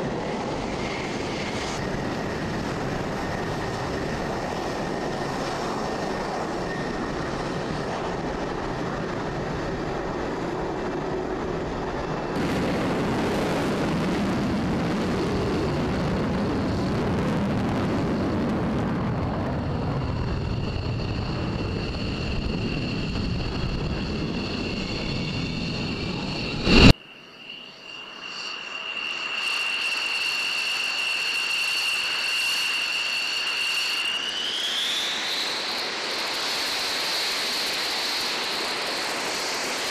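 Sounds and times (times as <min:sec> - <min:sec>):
high-pitched turbine whine: 0:00.0 - 0:39.9
jet engine roar: 0:00.0 - 0:39.9.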